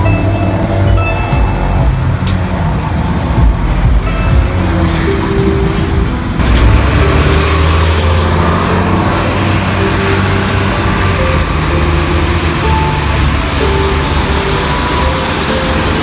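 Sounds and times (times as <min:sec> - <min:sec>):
bus engine rumble: 0:00.0 - 0:16.0
road traffic noise: 0:00.0 - 0:16.0.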